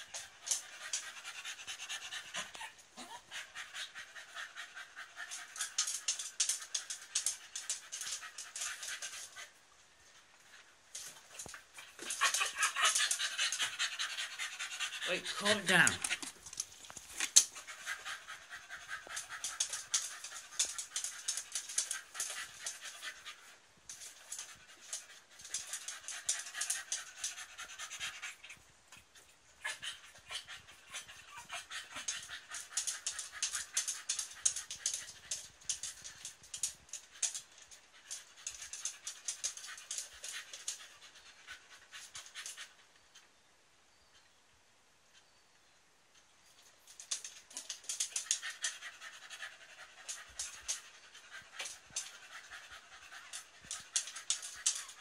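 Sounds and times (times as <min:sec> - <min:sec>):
dog panting rapidly: 0:00.0 - 0:09.6, 0:10.5 - 0:42.8, 0:46.9 - 0:55.0.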